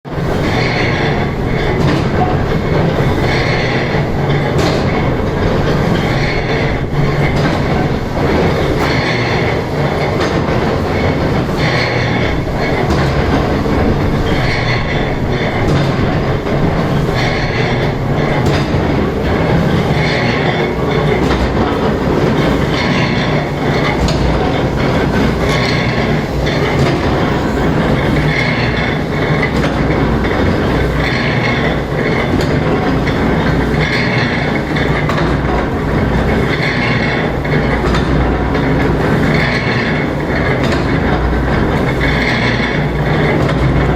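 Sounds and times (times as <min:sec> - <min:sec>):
power press clattering: 0:00.2 - 0:43.9.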